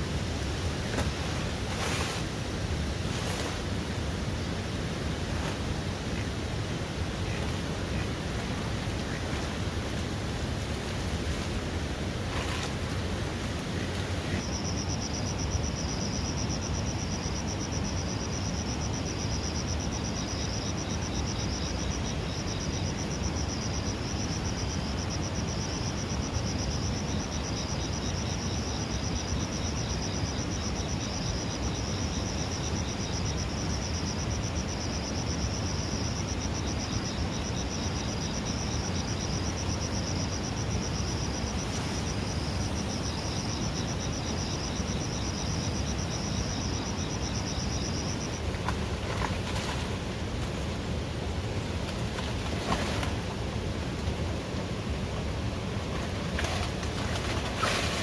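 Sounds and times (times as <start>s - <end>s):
crickets trilling: 0.0s - 58.0s
fainter lower insect trill: 0.0s - 58.0s.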